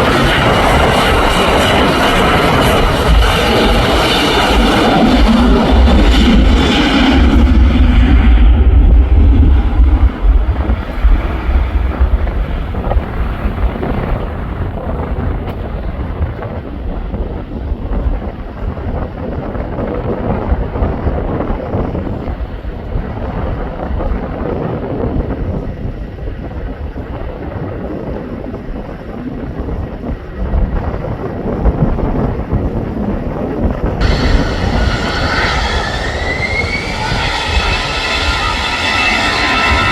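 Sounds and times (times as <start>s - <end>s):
jet engine noise: 0.0s - 39.9s
wind buffeting microphone: 0.0s - 39.9s.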